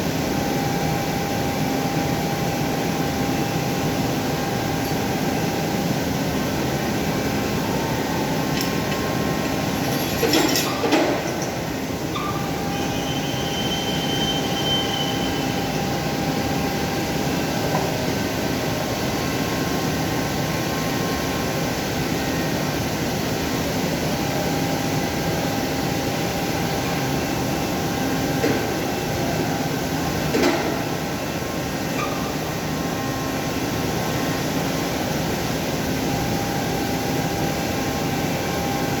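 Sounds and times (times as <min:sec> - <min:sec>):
machinery drone with whine: 0:00.0 - 0:39.0.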